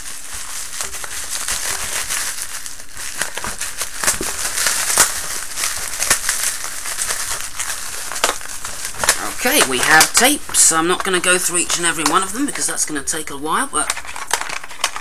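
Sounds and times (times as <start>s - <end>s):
bubble wrap crinkling: 0.0s - 15.0s
bubble wrap sharp crackles: 0.0s - 15.0s.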